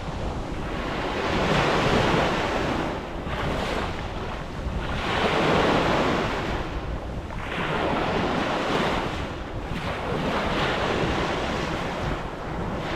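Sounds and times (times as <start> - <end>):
sea surf washing in: 0.0 - 12.9
wind buffeting microphone: 0.0 - 12.9.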